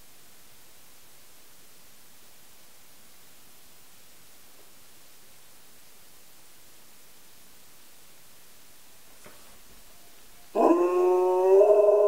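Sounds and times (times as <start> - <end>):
faint room tone hiss: 0.0 - 12.0.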